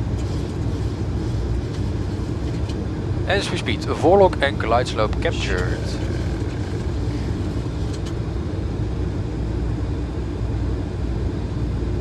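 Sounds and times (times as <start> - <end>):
cockpit airflow and engine rumble: 0.0 - 12.0.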